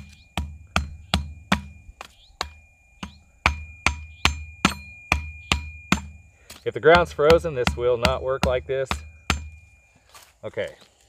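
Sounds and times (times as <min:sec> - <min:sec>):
hatchet knocking on wooden stakes: 0:00.0 - 0:09.7.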